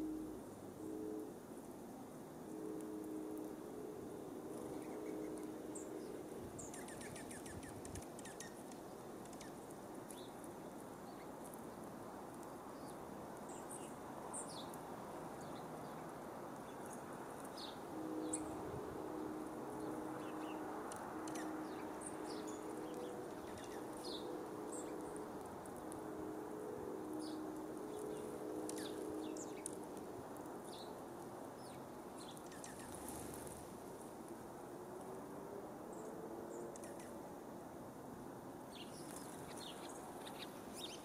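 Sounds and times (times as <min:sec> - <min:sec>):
low steady hum: 0:00.0 - 0:34.4
steady outdoor hiss: 0:00.0 - 0:41.0
songbirds chirping: 0:02.7 - 0:34.4, 0:35.8 - 0:37.4, 0:38.6 - 0:41.0.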